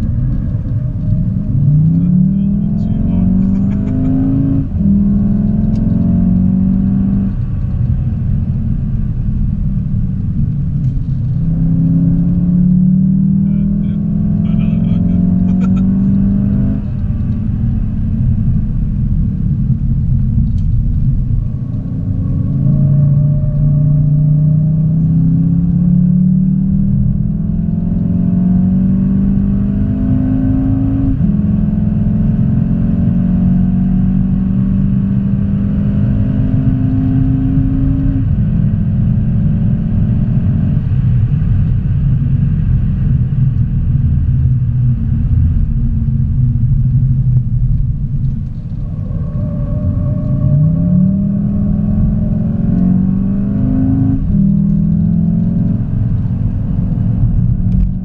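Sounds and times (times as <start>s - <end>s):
car engine revving through gears: 0.0s - 10.0s, 10.8s - 43.6s, 46.9s - 58.0s
road and tyre rumble: 0.0s - 58.0s.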